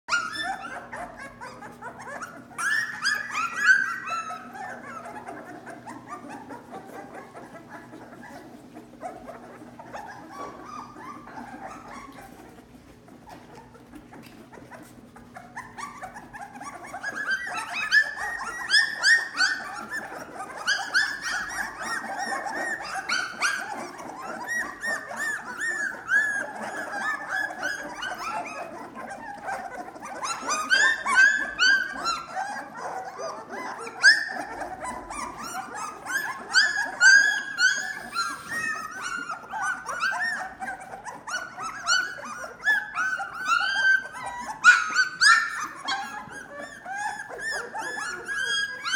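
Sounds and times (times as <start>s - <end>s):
puppies crying: 0.0s - 48.9s.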